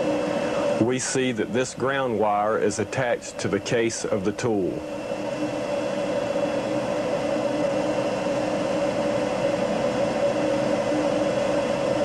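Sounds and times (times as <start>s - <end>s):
steady hum with hiss: 0.0s - 12.0s.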